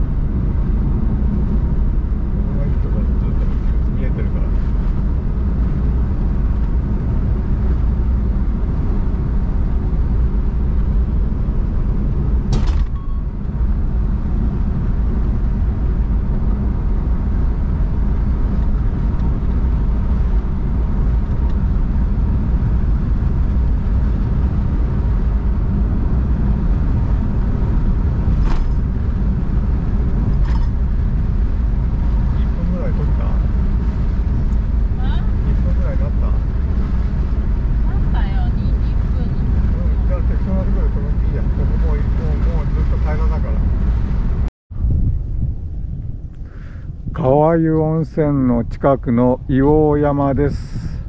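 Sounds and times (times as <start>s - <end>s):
car interior road rumble: 0.0s - 51.0s.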